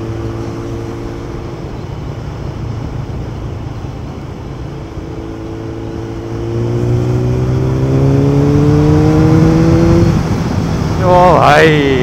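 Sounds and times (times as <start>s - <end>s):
motorcycle engine and exhaust: 0.0s - 12.0s
wind and road noise: 0.0s - 12.0s.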